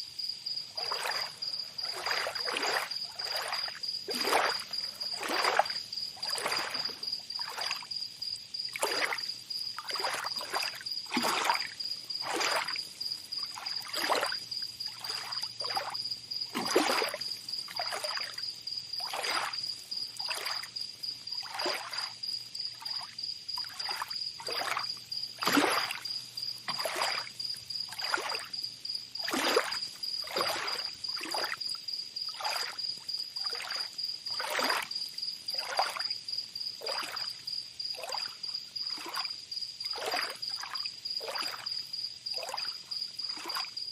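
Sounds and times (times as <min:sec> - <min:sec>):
high insect trill: 0:00.0 - 0:43.9
small waves lapping: 0:00.4 - 0:43.8.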